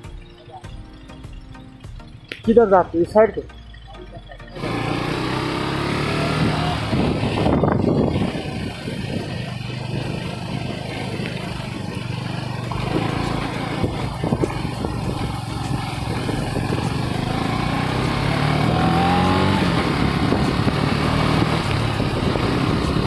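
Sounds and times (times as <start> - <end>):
motorcycle engine accelerating: 4.5 - 23.0.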